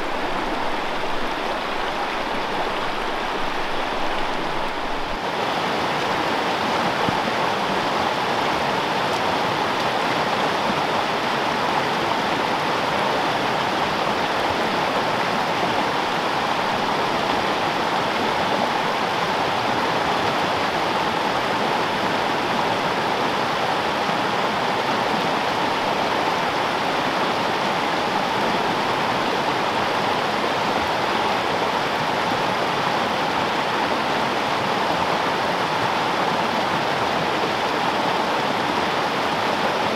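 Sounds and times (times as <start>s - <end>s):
mountain stream running: 0.0s - 39.9s.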